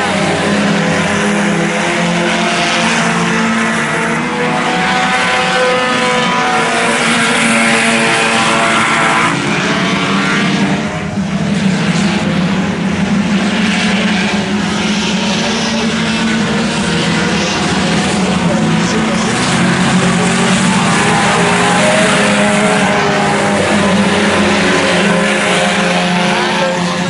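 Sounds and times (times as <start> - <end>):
race car engines: 0.0 - 27.0.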